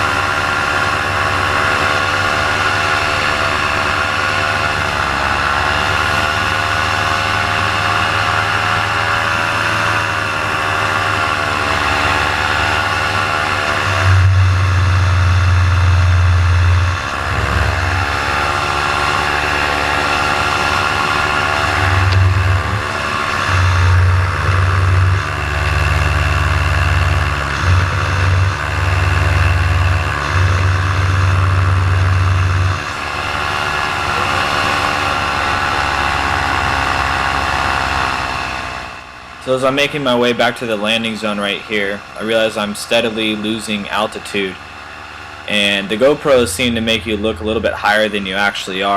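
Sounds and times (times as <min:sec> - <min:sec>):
paramotor engine running: 0:00.0 - 0:48.9.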